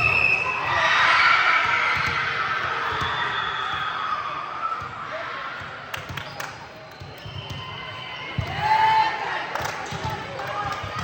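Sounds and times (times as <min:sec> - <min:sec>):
crowd cheering and shouting: 0:00.0 - 0:05.8, 0:07.5 - 0:11.0.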